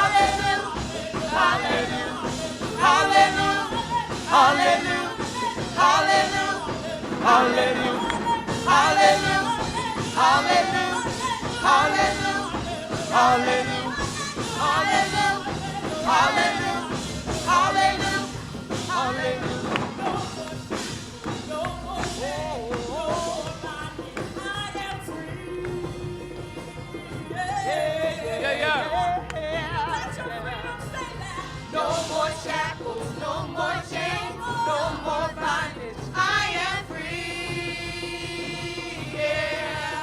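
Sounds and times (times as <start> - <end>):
band with steady bass line: 0.0 - 40.0
person singing gospel: 0.0 - 40.0.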